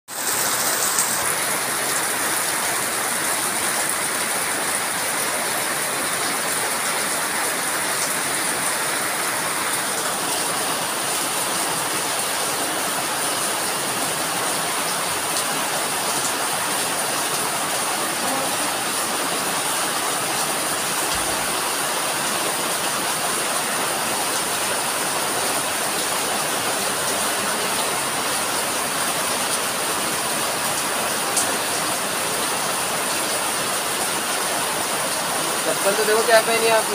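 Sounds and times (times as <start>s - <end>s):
heavy rain on leaves and paving: 0.1s - 36.9s.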